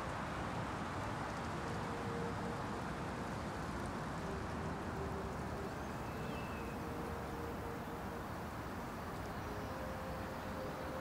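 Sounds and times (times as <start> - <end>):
wind through trees: 0.0 - 11.0.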